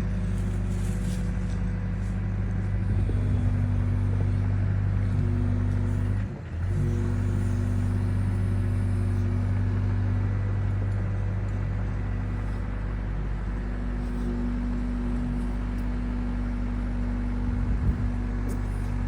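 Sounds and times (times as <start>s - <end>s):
excavator engine humming: 0.0s - 19.0s.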